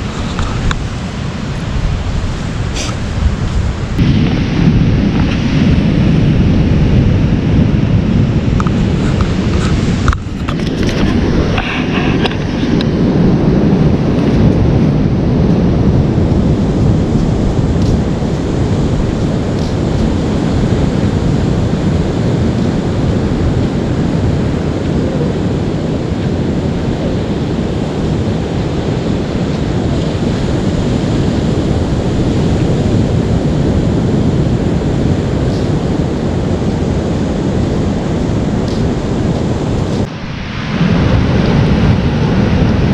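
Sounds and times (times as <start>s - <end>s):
surf breaking on rocks: 0.0s - 42.9s
wind on microphone: 0.0s - 42.9s.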